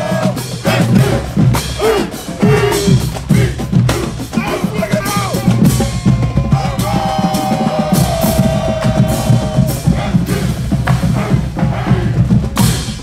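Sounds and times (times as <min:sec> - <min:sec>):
drumline playing cadence: 0:00.0 - 0:13.0.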